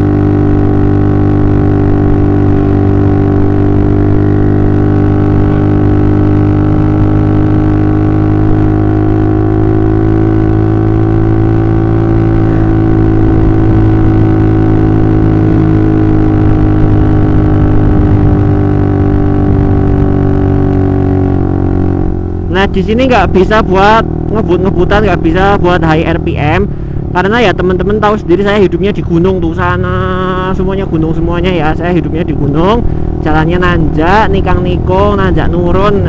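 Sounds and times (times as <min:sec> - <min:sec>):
motorcycle engine exhaust drone: 0:00.0 - 0:36.0.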